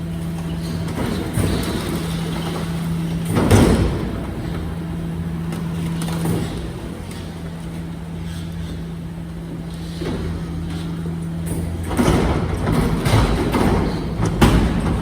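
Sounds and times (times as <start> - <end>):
garbage truck humming: 0.0 - 15.0.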